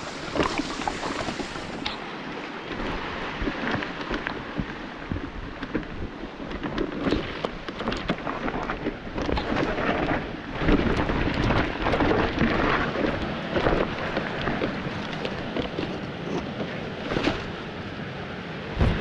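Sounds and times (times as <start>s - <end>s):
bike tyres rattling over rocks: 0.0s - 17.8s.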